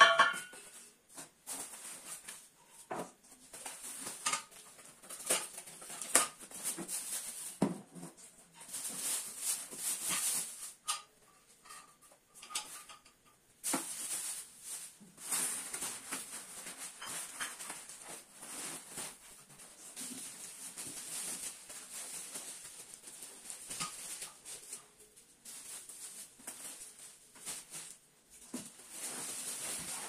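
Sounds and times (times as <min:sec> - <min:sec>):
cardboard and plastic rustling: 0:00.5 - 0:13.0, 0:13.6 - 0:30.0.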